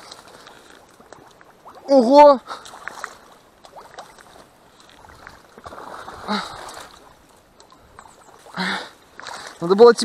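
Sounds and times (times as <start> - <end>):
water sloshing around legs: 0.0 - 10.0.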